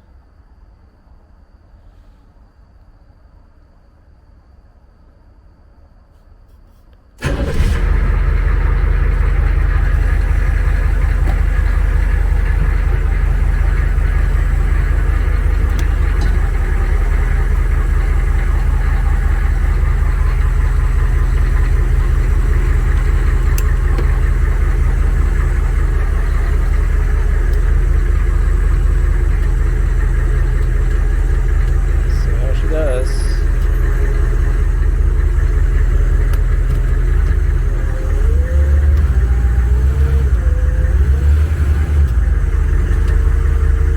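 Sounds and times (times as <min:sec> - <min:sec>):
diesel engine idling: 0:07.2 - 0:43.9.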